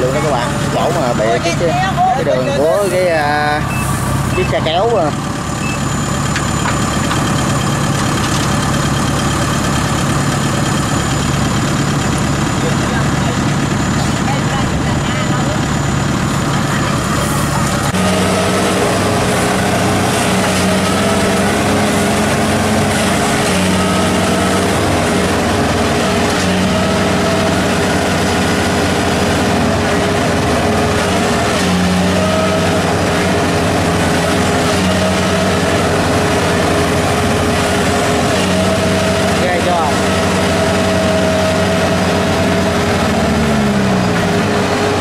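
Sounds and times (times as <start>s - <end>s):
engines running hard under load: 0.0s - 45.0s.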